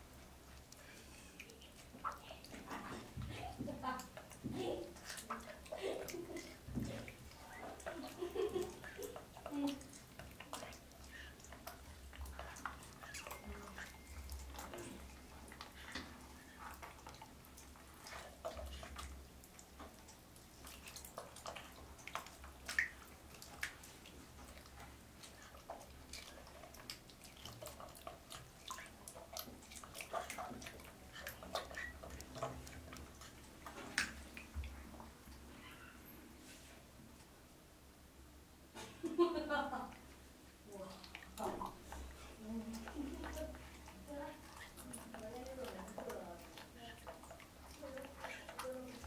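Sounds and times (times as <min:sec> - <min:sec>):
wet eating smacks: 0:00.0 - 0:35.5, 0:40.9 - 0:49.0
small water splashes: 0:00.0 - 0:35.6, 0:40.7 - 0:49.0.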